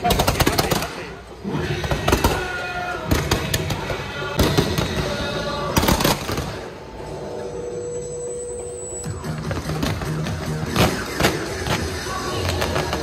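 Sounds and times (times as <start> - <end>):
fireworks and firecrackers banging: 0.0 - 6.9, 9.1 - 13.0
music playing: 0.0 - 13.0.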